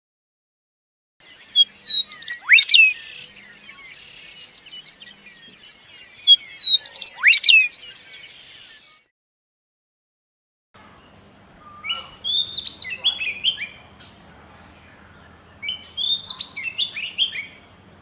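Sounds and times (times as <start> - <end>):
songbird singing: 1.2 - 9.1, 10.8 - 18.0.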